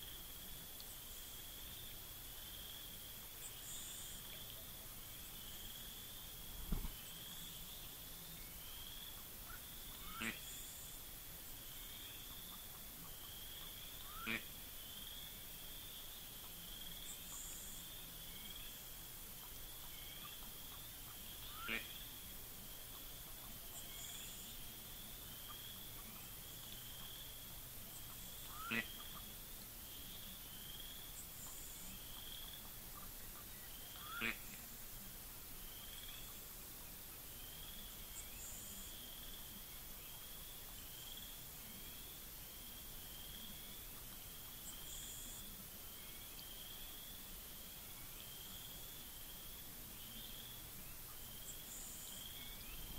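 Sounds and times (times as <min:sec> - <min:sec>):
quiet outdoor ambience: 0:00.0 - 0:52.9.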